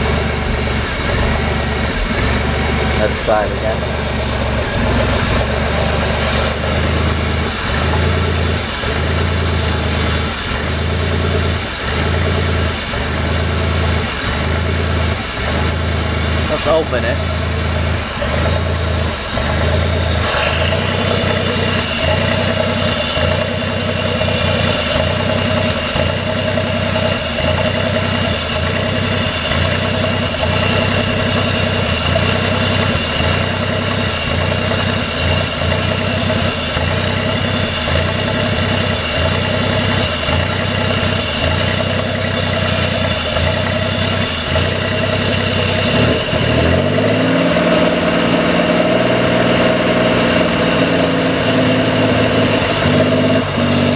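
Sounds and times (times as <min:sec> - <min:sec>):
engine idling roughly: 0:00.0 - 0:53.9.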